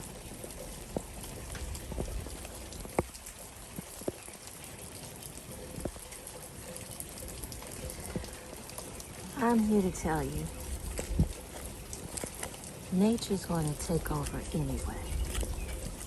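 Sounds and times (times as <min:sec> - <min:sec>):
heavy raindrops landing close: 0:00.0 - 0:16.0
rain pattering: 0:00.0 - 0:16.0.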